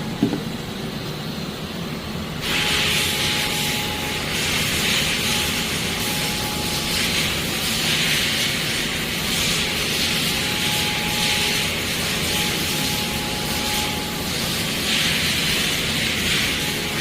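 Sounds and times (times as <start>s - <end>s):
lathe running with rushing hiss: 0.0s - 17.0s.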